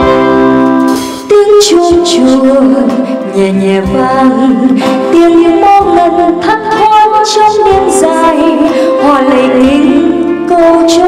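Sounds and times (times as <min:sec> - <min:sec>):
instrumental chords: 0:00.0 - 0:11.0
woman singing: 0:01.3 - 0:11.0.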